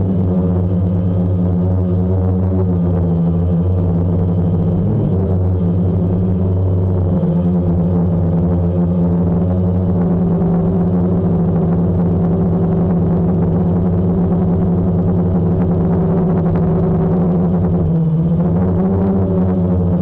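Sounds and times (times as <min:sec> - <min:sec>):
drone propellers humming: 0:00.0 - 0:20.0.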